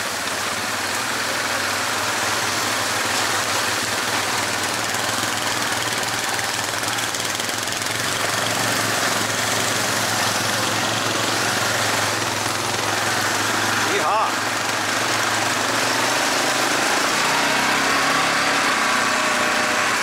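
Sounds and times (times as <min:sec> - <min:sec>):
atv engine running: 0:00.0 - 0:20.0.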